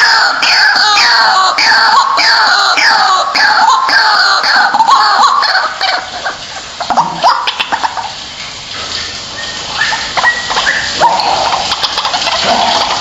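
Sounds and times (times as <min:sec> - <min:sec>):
waterhen harsh calls: 0:00.0 - 0:13.0.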